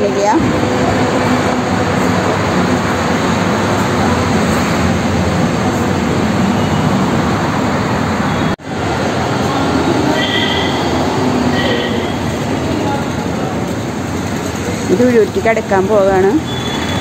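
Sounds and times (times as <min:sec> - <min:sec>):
loud outdoor rushing noise: 0:00.0 - 0:17.0.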